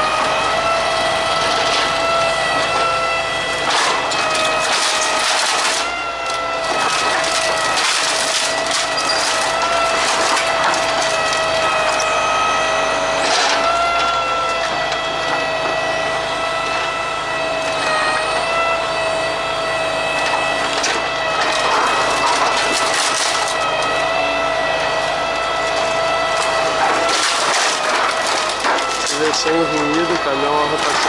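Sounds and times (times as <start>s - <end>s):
high hydraulic whine: 0.0s - 31.0s
wooden pallets cracking and splintering: 0.0s - 31.0s.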